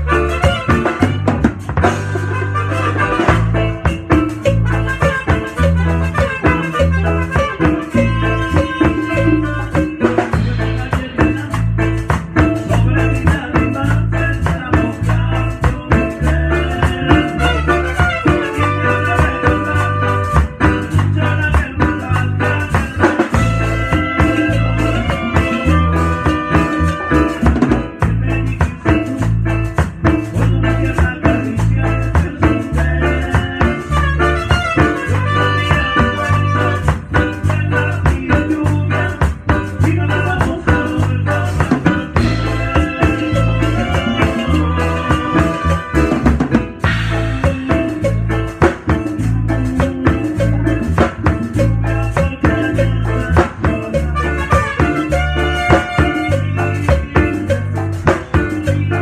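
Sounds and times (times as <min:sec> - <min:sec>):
latin dance band playing: 0:00.0 - 0:59.0.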